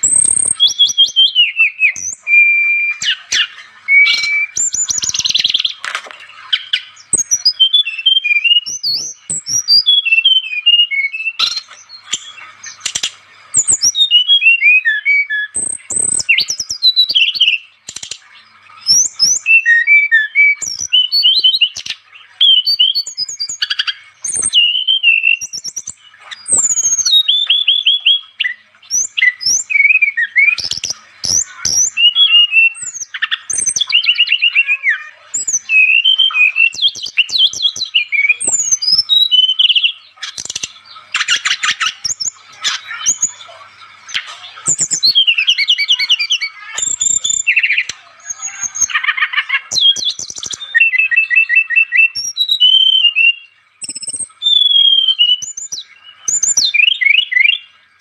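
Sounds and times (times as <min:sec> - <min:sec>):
songbird whistles chirps and trills: 0:00.0 - 0:58.0.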